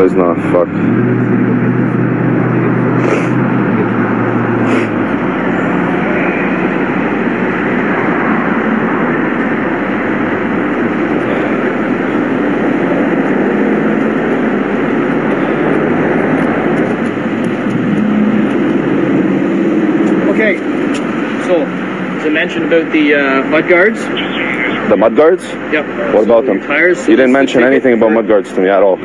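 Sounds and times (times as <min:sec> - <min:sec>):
low hum: 0:00.0 - 0:27.4
engine running: 0:00.0 - 0:29.0
traffic: 0:00.0 - 0:29.0.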